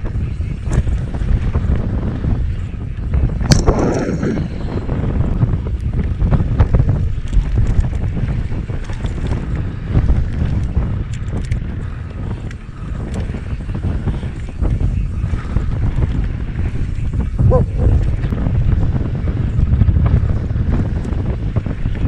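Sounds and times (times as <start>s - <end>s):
bike clicks and rattles: 0.0s - 22.0s
wind buffeting microphone: 0.0s - 22.0s.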